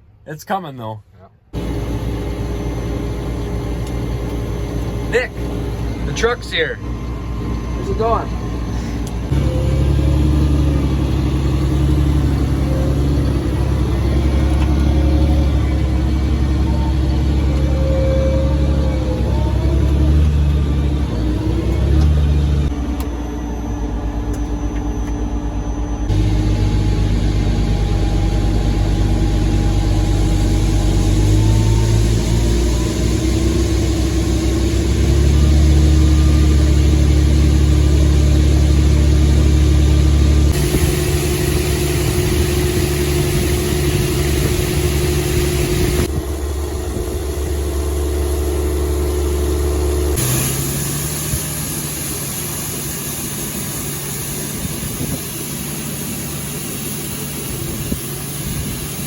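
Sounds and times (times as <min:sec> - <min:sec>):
tractor engine running: 0:01.6 - 0:59.0.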